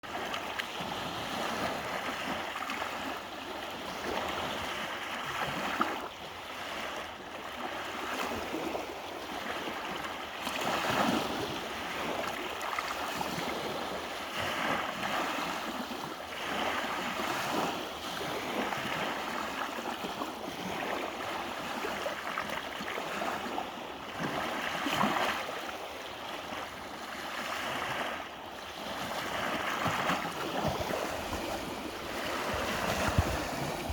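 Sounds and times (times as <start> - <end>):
sea waves breaking on shore: 0.0 - 33.9.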